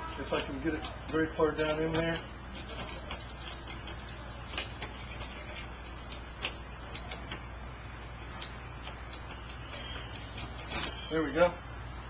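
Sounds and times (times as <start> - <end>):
steady low hum: 0.0 - 12.0
metal stem scraping in sand: 0.1 - 11.3.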